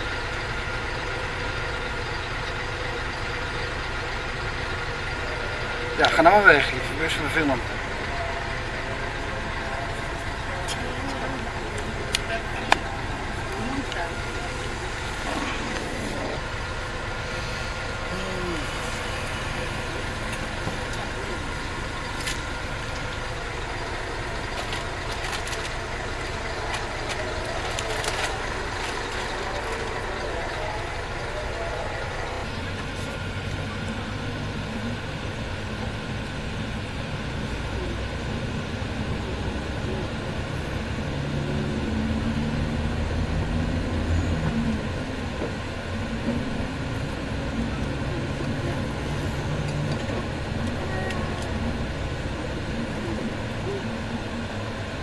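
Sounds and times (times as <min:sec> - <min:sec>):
bus engine running: 0:00.0 - 0:55.0
road noise: 0:00.0 - 0:55.0.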